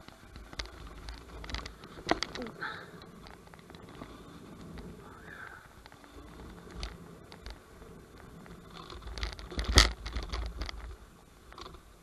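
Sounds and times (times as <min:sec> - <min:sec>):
scooter tyres rattling over dirt: 0:00.0 - 0:12.0.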